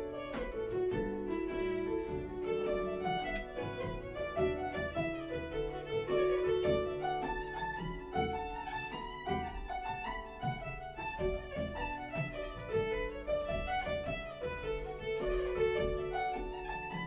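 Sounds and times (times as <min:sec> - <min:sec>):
fiddle and harp playing folk tune: 0:00.0 - 0:17.0.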